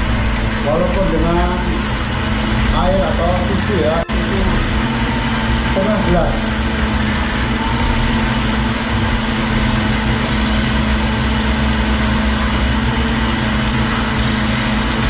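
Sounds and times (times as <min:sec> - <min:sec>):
blender running: 0:00.0 - 0:15.0.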